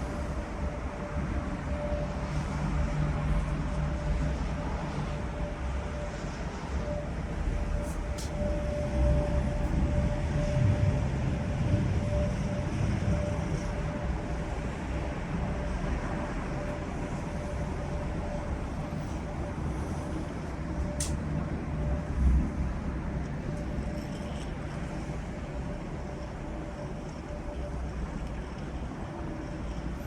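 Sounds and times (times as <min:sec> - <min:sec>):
low steady rumble: 0:00.0 - 0:30.0
thin continuous hum tone: 0:00.0 - 0:30.0.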